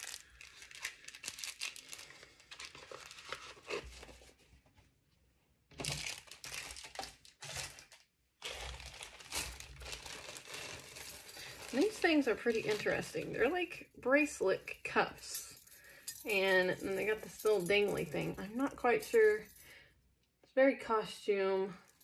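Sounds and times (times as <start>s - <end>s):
plastic bags crinkling: 0.0s - 4.4s, 5.7s - 19.8s.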